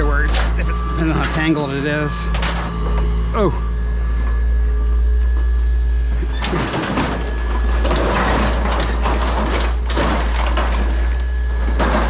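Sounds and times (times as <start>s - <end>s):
cables and plastic parts rummaged: 0.0s - 12.0s
steady low hum: 0.0s - 12.0s.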